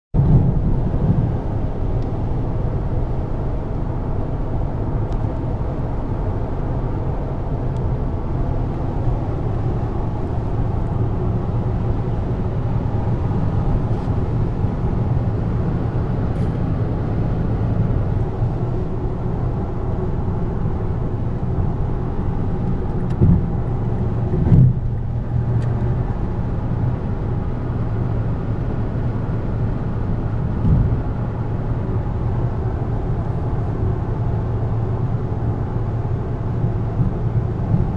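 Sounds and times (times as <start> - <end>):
car cabin road and engine rumble: 0.2 - 37.9.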